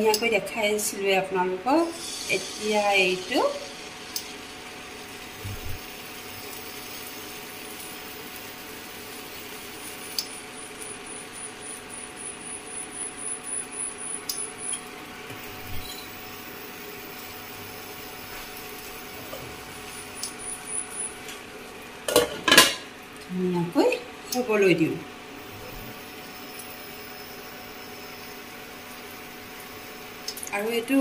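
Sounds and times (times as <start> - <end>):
faint hum: 5.0 - 21.9, 23.1 - 31.0.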